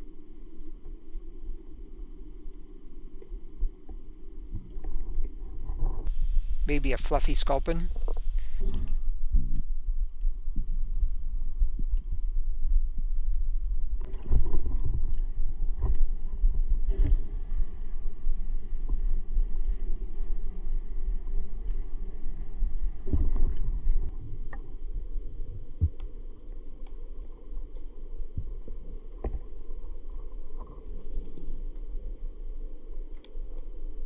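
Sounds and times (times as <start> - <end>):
muffled underwater rumble: 0.0 - 34.0.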